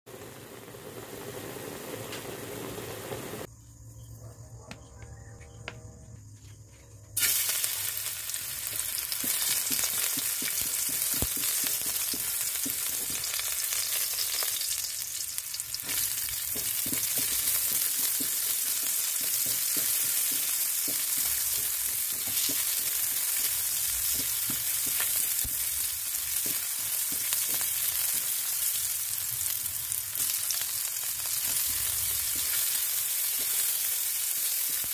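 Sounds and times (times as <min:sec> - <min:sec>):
garlic and onions sizzling in oil: 0:00.1 - 0:03.5, 0:07.2 - 0:34.9.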